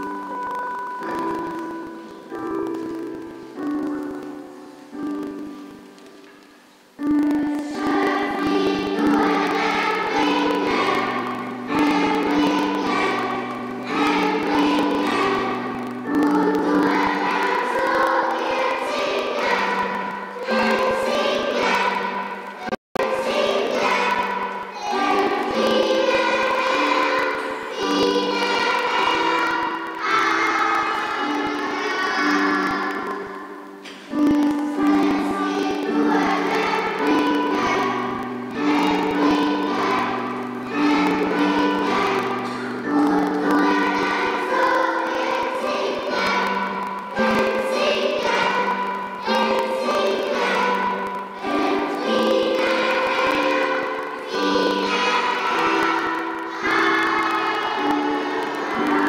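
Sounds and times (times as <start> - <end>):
children's choir singing: 0.0 - 59.0
keyboard accompaniment: 0.0 - 59.0.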